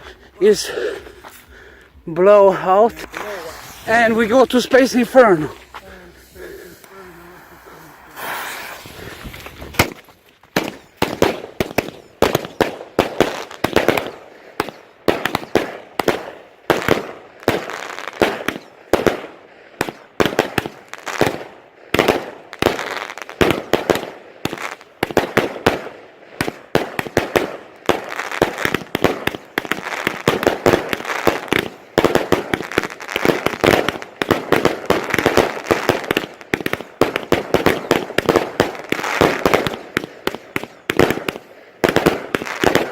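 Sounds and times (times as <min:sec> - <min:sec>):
firework crackling: 0:02.2 - 0:42.9
fireworks shots and bursts: 0:02.2 - 0:42.9.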